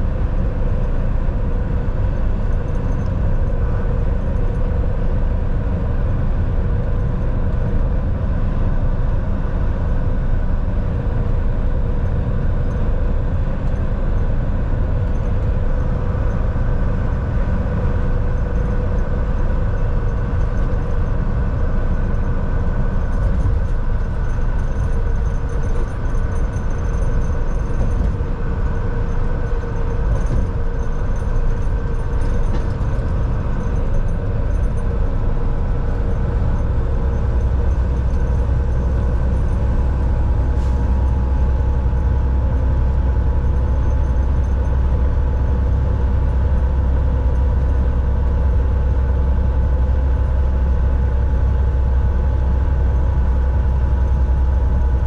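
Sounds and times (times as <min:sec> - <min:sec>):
truck engine and road drone: 0:00.0 - 0:55.0.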